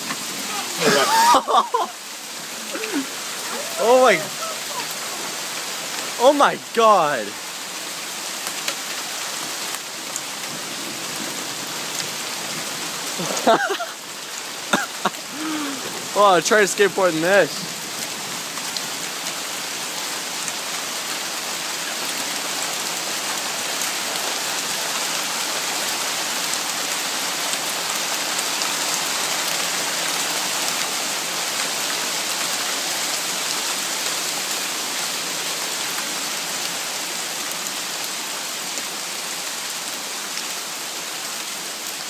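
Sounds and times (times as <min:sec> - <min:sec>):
heavy rain pouring: 0:00.0 - 0:42.0.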